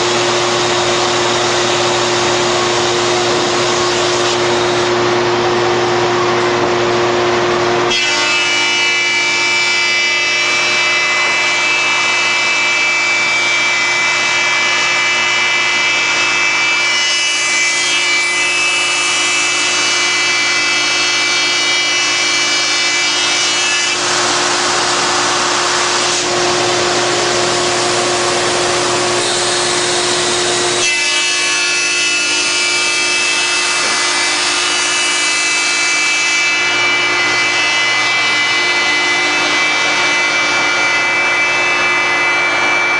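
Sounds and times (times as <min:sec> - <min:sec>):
belt sander sanding wood: 0:00.0 - 0:08.0, 0:09.7 - 0:42.9.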